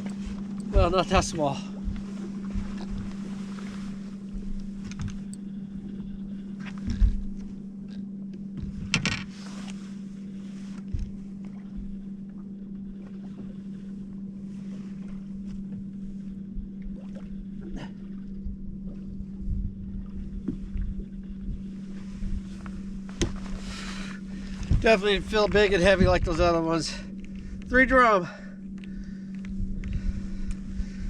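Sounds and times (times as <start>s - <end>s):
low electric hum: 0.0s - 31.0s.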